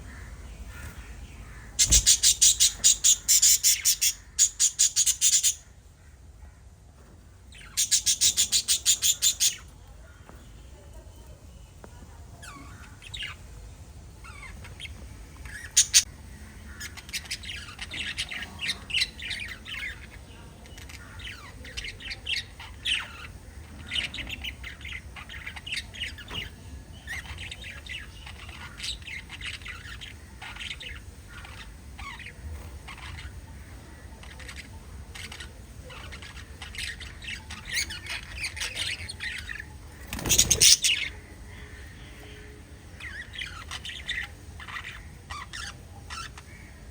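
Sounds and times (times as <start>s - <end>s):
parrots chirping and squawking: 0.0s - 6.0s, 7.5s - 10.4s, 14.1s - 46.9s.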